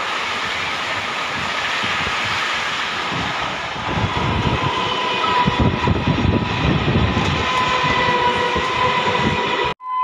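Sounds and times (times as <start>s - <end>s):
train rumbling on rails: 0.0s - 9.8s.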